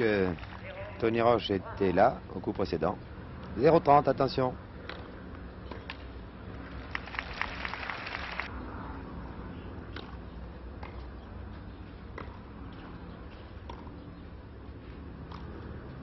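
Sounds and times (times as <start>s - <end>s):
soundtrack hum and hiss: 0.0s - 16.0s.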